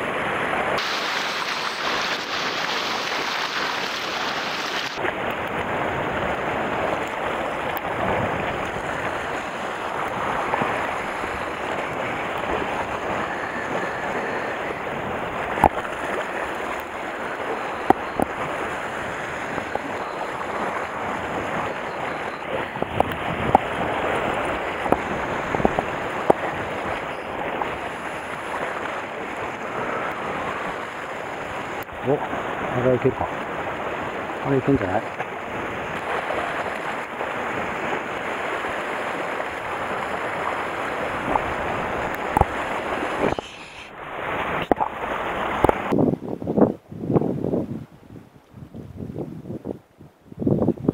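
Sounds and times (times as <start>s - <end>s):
waves splashing on rocky shore: 0.0s - 46.2s
wind on microphone: 0.0s - 50.9s.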